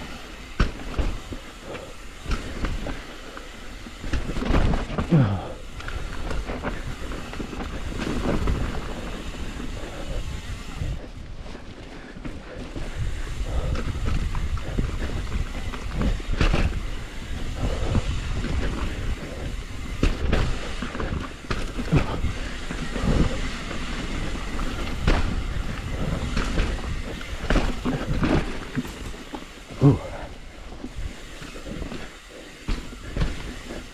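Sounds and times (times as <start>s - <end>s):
bike knocks and rattles: 0.0s - 33.9s
tyres rumbling on dirt: 0.0s - 33.9s.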